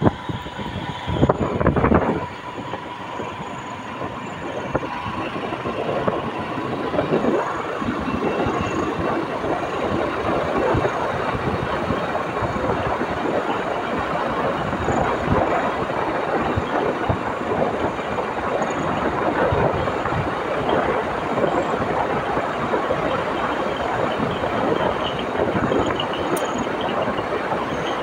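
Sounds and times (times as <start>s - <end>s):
wind noise: 0.0s - 28.0s.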